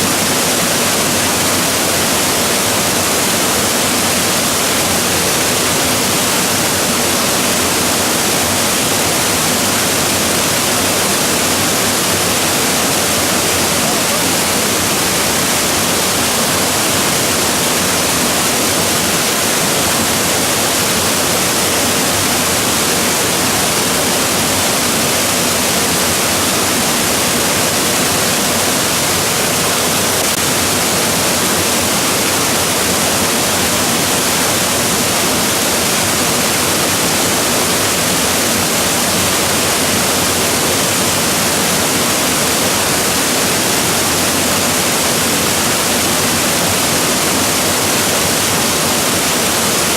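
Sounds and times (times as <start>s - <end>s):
waterfall crashing: 0.0s - 49.9s.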